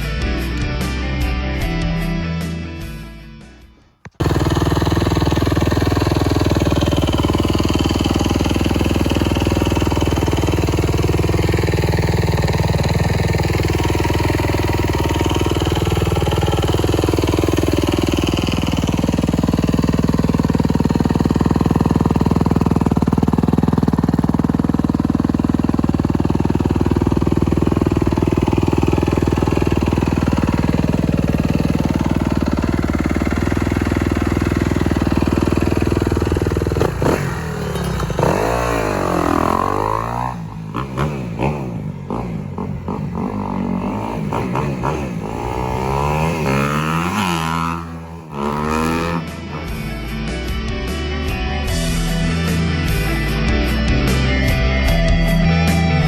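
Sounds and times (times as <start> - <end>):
motorcycle engine running: 4.0 - 56.0.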